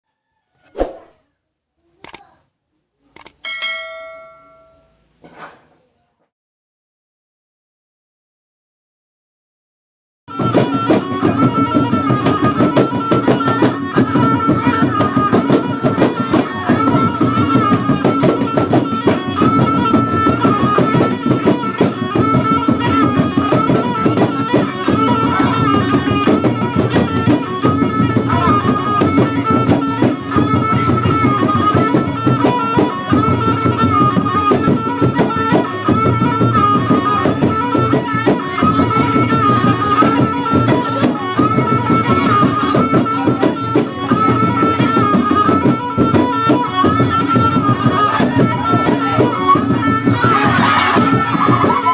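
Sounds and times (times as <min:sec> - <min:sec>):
drums beating: 0:10.3 - 0:51.9.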